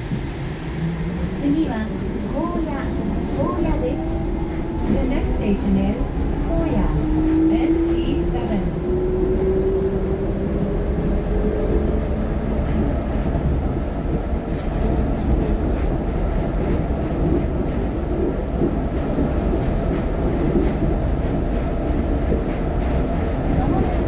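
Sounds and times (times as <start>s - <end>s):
train tyres rumbling: 0.0s - 24.0s.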